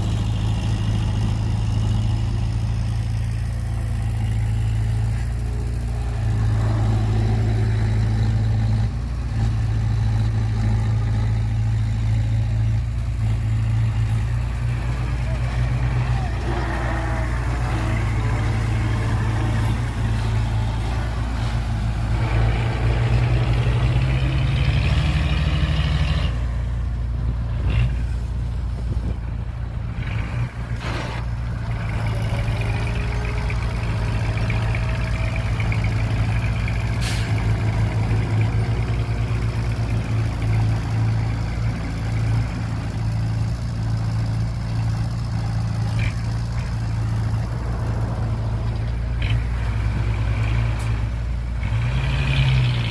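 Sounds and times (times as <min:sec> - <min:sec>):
heavy diesel engines droning: 0:00.0 - 0:52.9.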